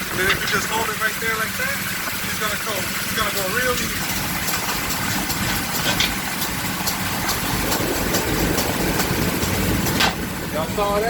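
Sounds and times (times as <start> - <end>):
generator engine running: 0.0 - 11.0
tire-changing machine turning: 0.0 - 11.0.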